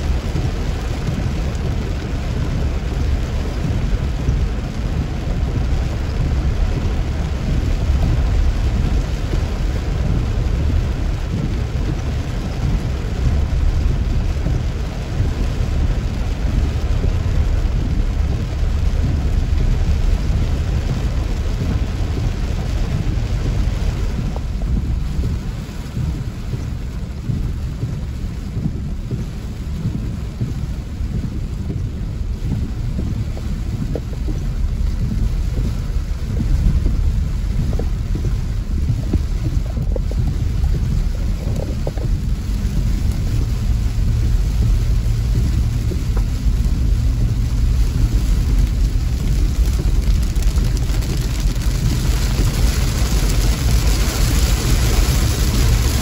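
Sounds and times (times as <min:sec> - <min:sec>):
deep low rumble: 0:00.0 - 0:56.0
heavy rain on a car: 0:00.0 - 0:56.0.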